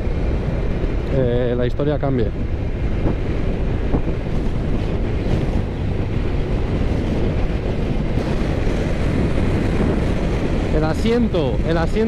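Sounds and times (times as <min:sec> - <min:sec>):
motorcycle engine and road noise: 0:00.0 - 0:12.0
wind rushing over microphone: 0:00.0 - 0:12.0.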